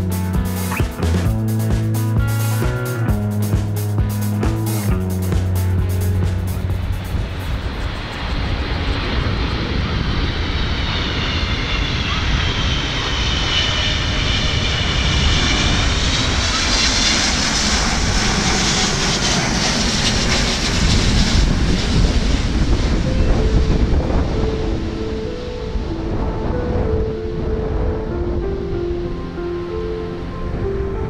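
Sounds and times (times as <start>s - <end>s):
jet airliner passing overhead: 5.0s - 31.0s.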